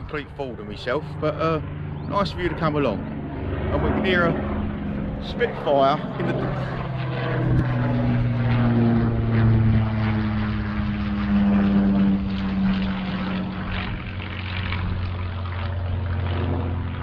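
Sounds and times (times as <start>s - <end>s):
propeller plane flying overhead: 0.0s - 17.0s.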